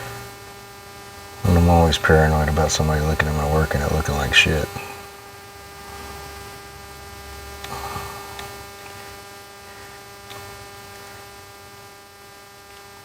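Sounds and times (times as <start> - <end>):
steady electrical hum: 1.2 - 13.0.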